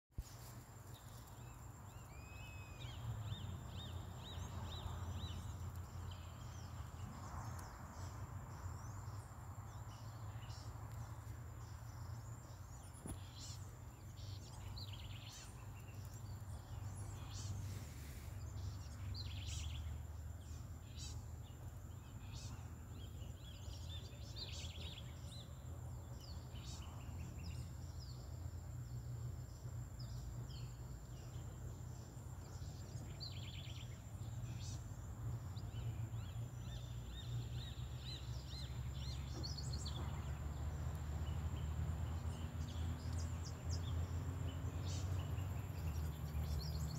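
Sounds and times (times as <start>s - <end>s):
birds chirping: 0.2s - 46.9s.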